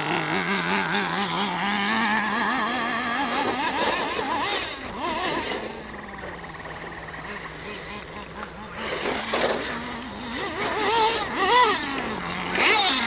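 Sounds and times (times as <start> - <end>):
toy truck motor revving: 0.0 - 13.0.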